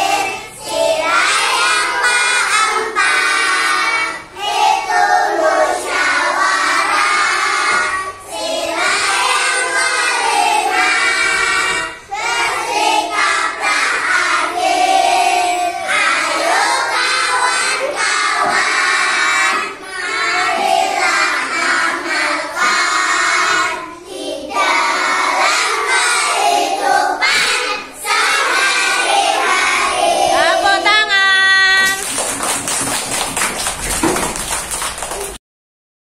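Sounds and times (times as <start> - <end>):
children singing in unison: 0.0 - 30.9.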